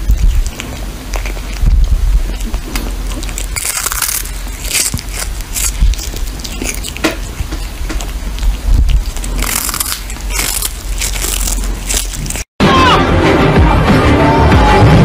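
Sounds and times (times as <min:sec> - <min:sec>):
kitten crunching dried fish: 0:00.0 - 0:12.5.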